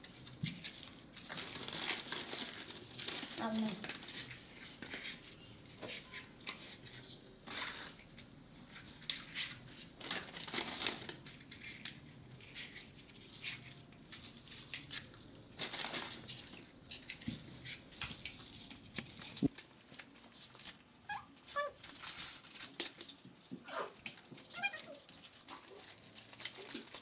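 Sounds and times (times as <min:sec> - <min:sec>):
material crinkling and rustling: 0:00.0 - 0:27.0.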